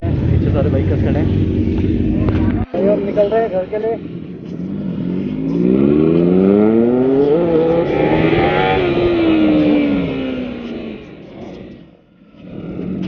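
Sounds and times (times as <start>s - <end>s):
motorcycle accelerating past: 0.4s - 13.0s.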